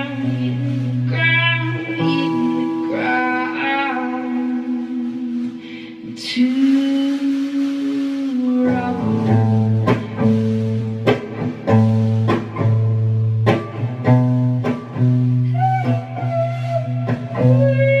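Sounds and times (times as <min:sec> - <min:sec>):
electric guitar strumming chords: 0:00.0 - 0:06.4, 0:08.7 - 0:18.0.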